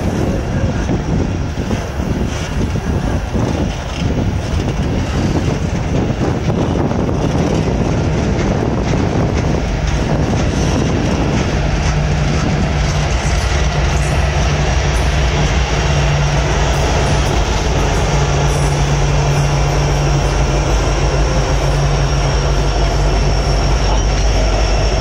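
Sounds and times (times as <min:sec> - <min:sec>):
locomotive engine drone: 0:00.0 - 0:25.0
wheels rumbling on rail: 0:00.0 - 0:25.0.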